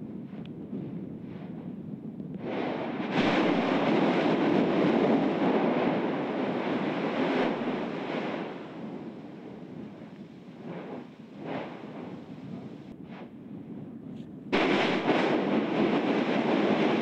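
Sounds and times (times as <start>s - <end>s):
volcanic eruption rushing: 0.0s - 17.0s.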